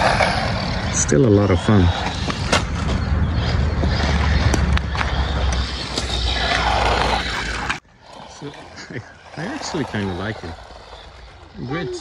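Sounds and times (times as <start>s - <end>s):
rc car motor and tyres: 0.0s - 12.0s.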